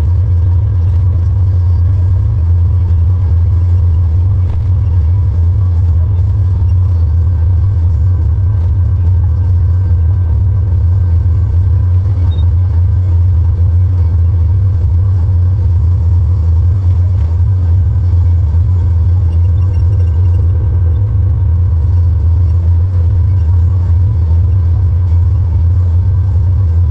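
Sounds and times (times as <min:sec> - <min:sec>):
tractor engine low drone: 0:00.0 - 0:26.9.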